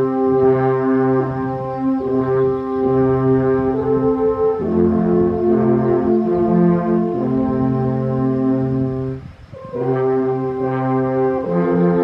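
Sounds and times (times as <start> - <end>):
alphorns playing in harmony: 0.0 - 12.0.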